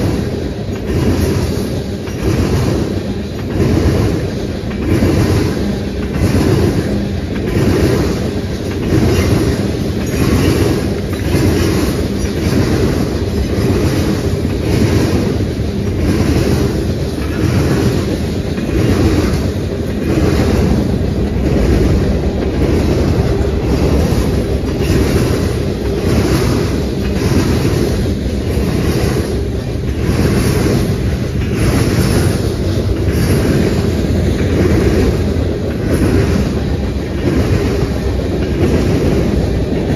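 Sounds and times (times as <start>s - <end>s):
freight train wheels rumbling: 0.0s - 39.9s
train wheels clickety-clack: 0.0s - 39.9s.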